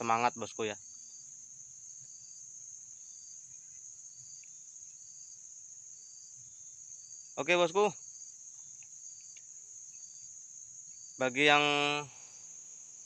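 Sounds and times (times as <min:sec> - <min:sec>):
faint short insect chirps: 0:00.0 - 0:13.0
insect high trill: 0:00.0 - 0:13.0.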